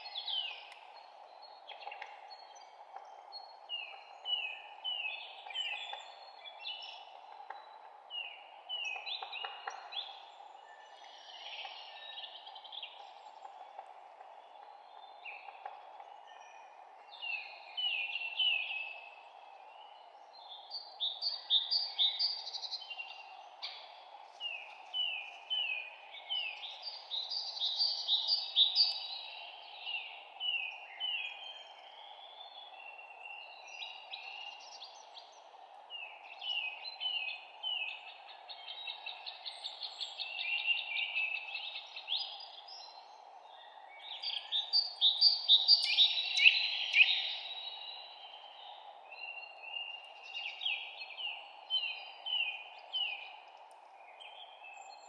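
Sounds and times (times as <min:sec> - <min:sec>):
songbirds singing: 0:00.0 - 0:55.0
steady background hiss: 0:00.0 - 0:55.0.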